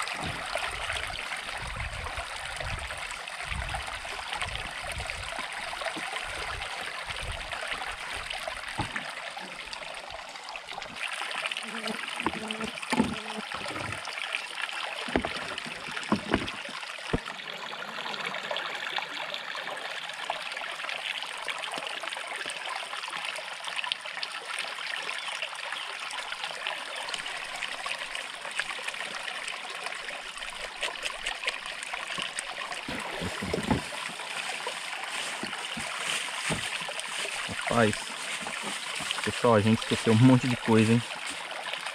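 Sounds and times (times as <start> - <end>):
shallow river water flowing: 0.0 - 41.9.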